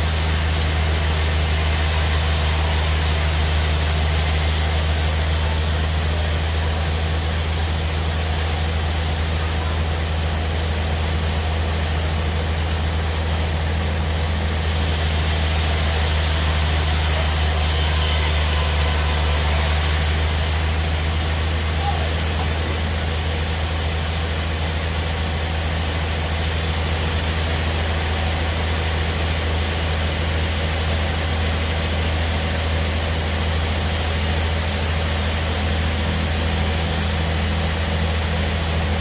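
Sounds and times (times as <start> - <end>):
bandsaw machinery running: 0.0 - 39.0.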